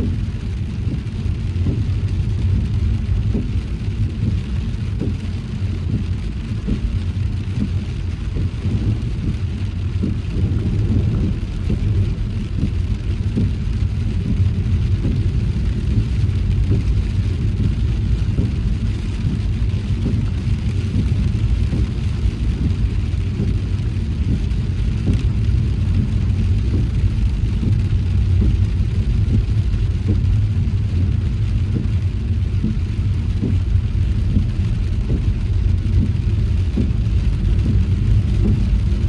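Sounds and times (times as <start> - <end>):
engine and road rumble: 0.0 - 39.0.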